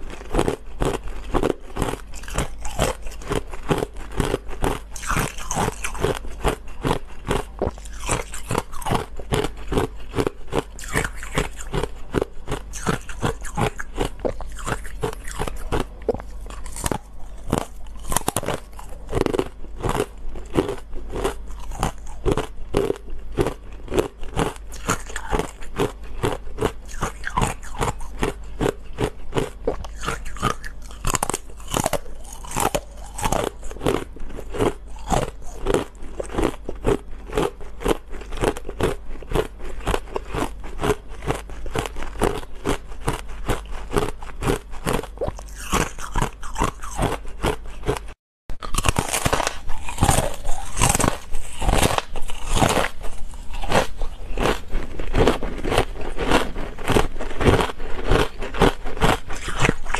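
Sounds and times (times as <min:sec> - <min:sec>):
ice crunching between teeth: 0:00.0 - 0:59.9.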